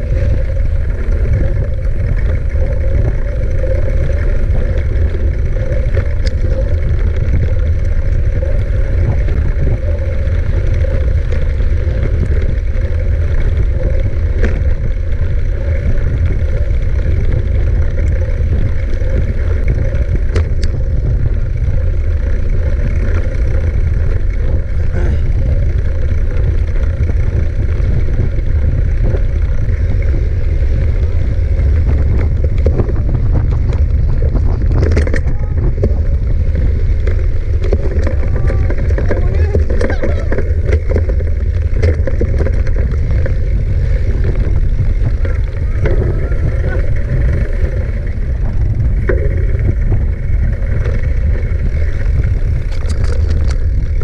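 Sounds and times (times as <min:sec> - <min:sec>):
bike tyre noise: 0:00.0 - 0:54.0
sharp bike clicks: 0:00.0 - 0:54.0
wind rumble on microphone: 0:00.0 - 0:54.0.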